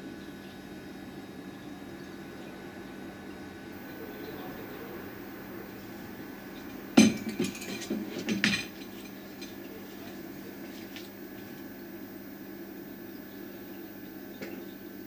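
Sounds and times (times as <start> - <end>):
faint hum with high whine: 0.0 - 15.0.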